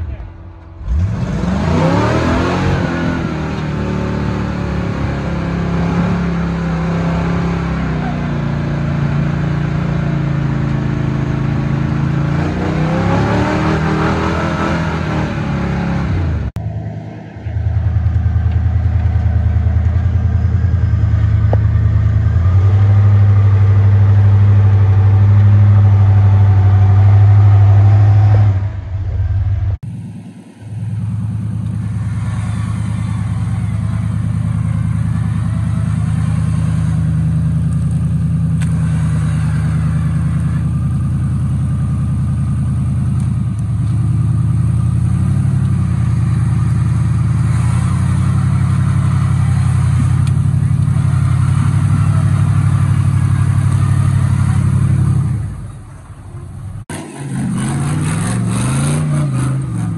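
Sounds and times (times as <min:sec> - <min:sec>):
buggy engines revving under load: 0:00.0 - 0:59.9.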